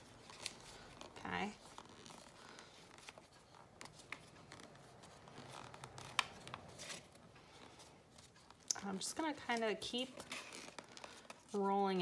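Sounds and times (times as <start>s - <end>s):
paper crackle: 0.0s - 8.7s, 9.4s - 11.6s
paper rustling and crinkling: 0.0s - 8.7s, 9.4s - 12.0s.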